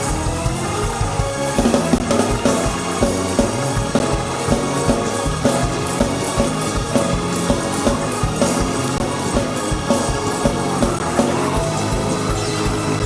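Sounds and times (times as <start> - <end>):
driving drum beat: 0.0 - 13.0
gospel band music: 0.0 - 13.0
keyboard chords: 0.0 - 13.0.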